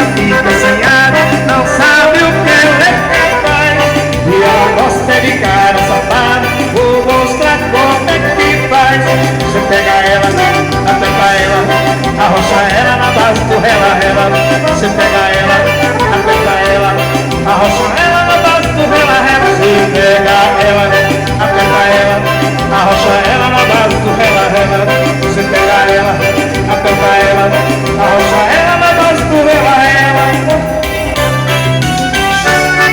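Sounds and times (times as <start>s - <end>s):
band playing instrumental: 0.0s - 32.9s
repeating bass line: 0.0s - 32.9s.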